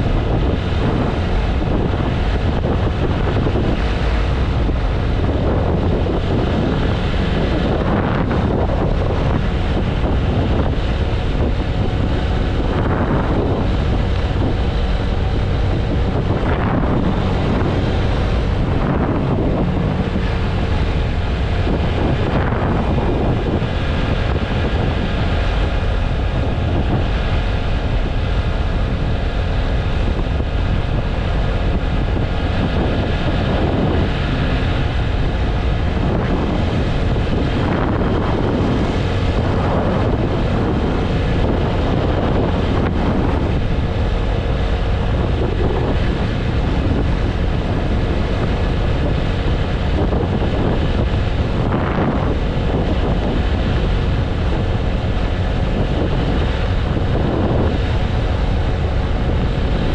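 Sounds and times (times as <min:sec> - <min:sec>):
motorcycle engine and road roar: 0:00.0 - 0:59.9
wind rushing over microphone: 0:00.0 - 0:59.9.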